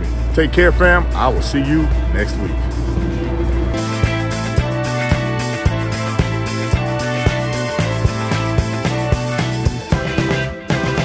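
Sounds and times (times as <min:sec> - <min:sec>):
held bass notes: 0:00.0 - 0:11.0
outro music with steady beat: 0:00.0 - 0:11.0.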